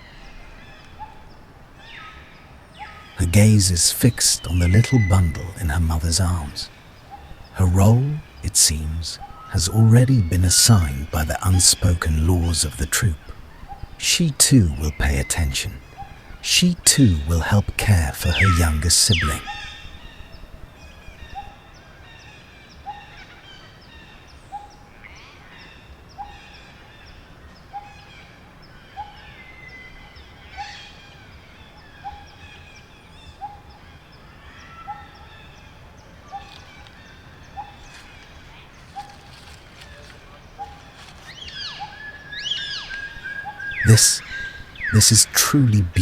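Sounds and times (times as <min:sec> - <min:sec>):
birds chirping and twittering: 0:00.0 - 0:46.0.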